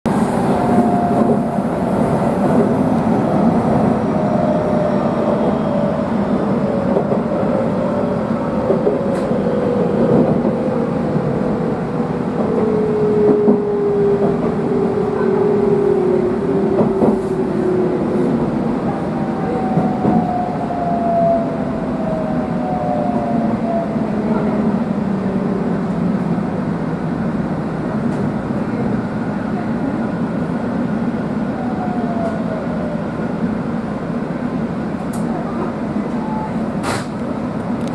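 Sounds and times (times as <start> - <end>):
wheels rumbling on rail: 0.0 - 37.9.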